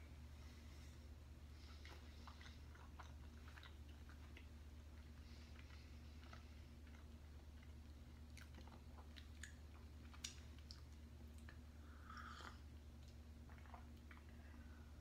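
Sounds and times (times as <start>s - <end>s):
low electrical hum: 0.0s - 15.0s
chewing with wet mouth clicks: 1.6s - 14.6s.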